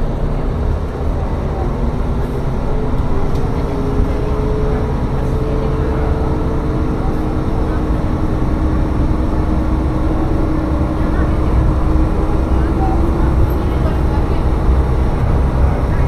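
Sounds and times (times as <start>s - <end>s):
diesel railcar rumbling: 0.0s - 16.0s.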